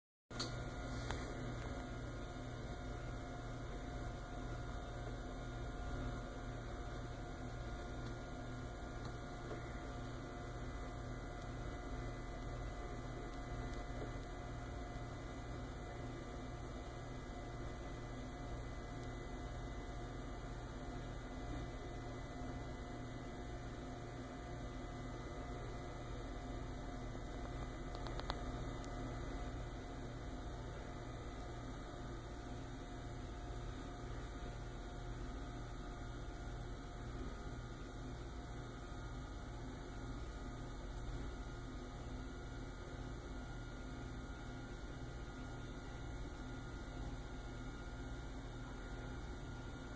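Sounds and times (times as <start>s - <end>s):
low electrical mains hum: 0.3s - 49.9s.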